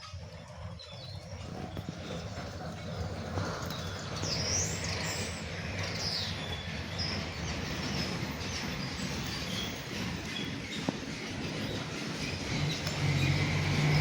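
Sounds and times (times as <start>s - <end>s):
birds chirping: 0.6s - 14.0s.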